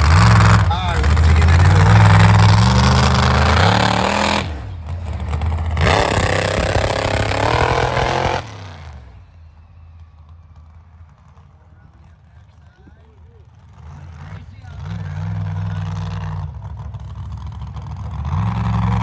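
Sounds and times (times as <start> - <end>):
race truck engines revving: 0.0 - 19.0.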